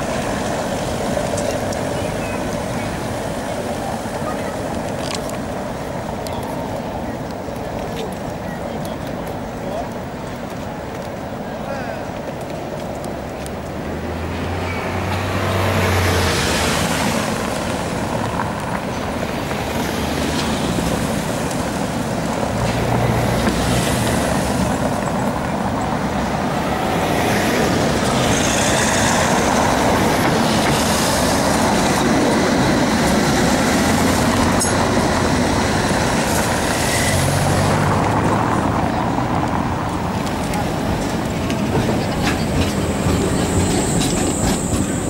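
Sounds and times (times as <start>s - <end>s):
street traffic: 0.0s - 45.0s
tram wheels and motors rumbling: 0.0s - 45.0s.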